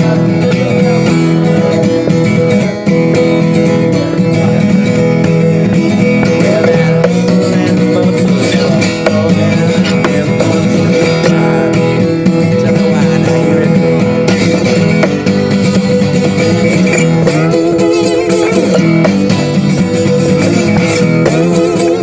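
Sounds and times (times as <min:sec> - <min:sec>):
blues guitar playing: 0:00.0 - 0:22.0.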